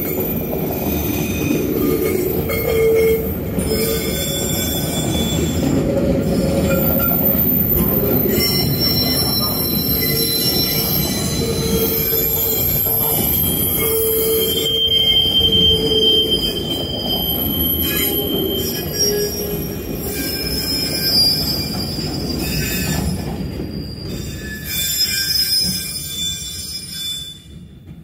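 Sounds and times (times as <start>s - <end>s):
rumble of wheels on rail: 0.0s - 28.0s
train wheels squealing: 0.0s - 28.0s.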